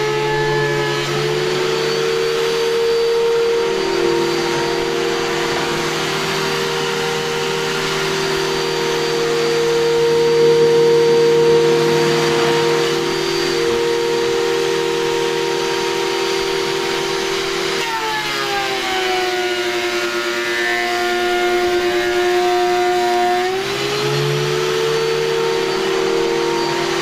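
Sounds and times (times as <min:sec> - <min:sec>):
board being planed: 0:00.0 - 0:27.0
chip extractor running: 0:00.0 - 0:27.0
thickness planer motor whining: 0:00.0 - 0:27.0.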